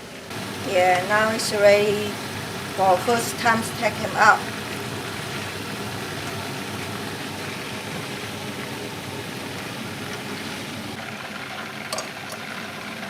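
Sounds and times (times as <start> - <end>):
oil deep-frying rushing noise: 0.0 - 13.0.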